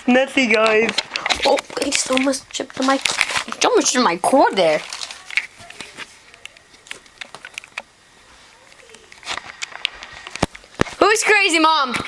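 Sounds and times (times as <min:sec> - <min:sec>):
faint rustling: 0:00.8 - 0:11.3.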